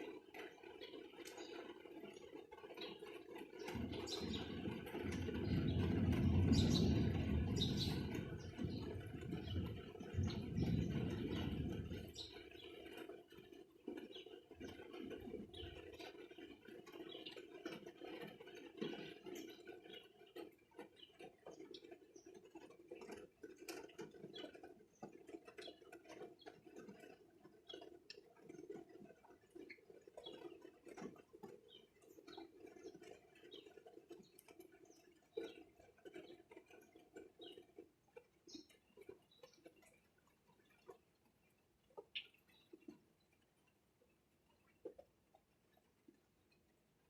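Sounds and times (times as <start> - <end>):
light rain patter: 0.0 - 47.0.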